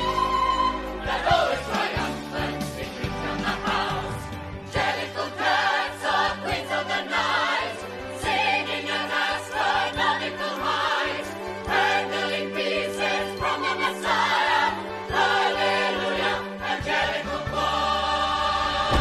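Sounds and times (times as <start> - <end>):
group singing in chorus: 0.0 - 19.0.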